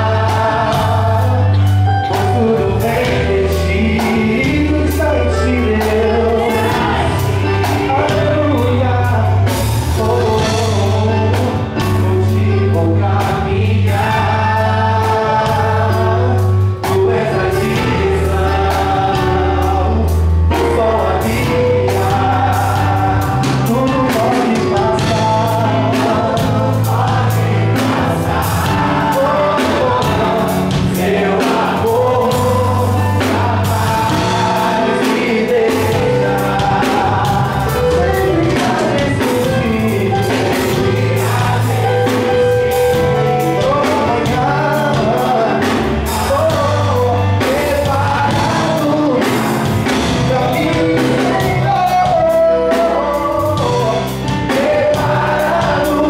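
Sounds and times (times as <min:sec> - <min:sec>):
backing vocals: 0:00.0 - 0:56.0
band playing bass keyboard drums: 0:00.0 - 0:56.0
man singing lead vocals: 0:00.0 - 0:56.0.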